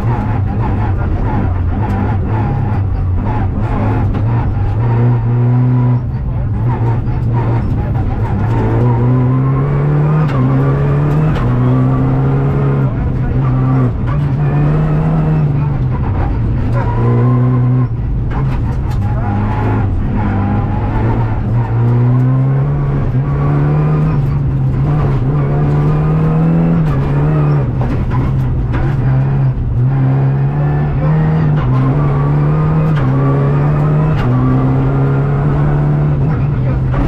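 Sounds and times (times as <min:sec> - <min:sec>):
car engine at full throttle: 0:00.0 - 0:37.0.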